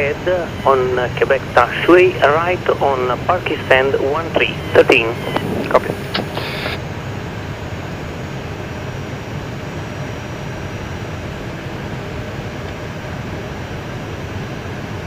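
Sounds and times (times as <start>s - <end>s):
aircraft engines idling in cockpit: 0.0s - 15.0s.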